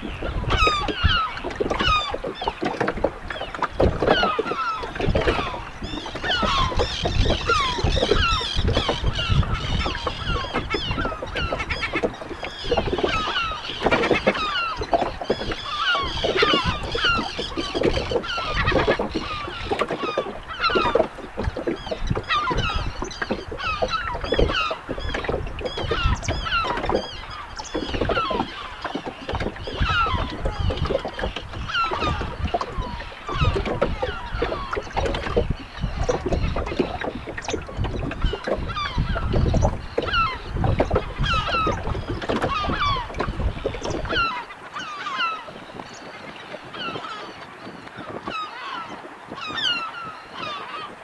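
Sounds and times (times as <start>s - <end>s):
seabirds honking and crying: 0.0s - 51.0s
wind rumble on microphone: 0.0s - 51.0s.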